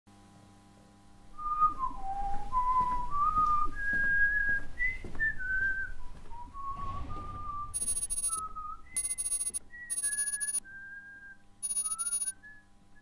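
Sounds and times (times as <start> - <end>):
person whistling a slow tune: 1.4 - 7.6, 8.3 - 13.0.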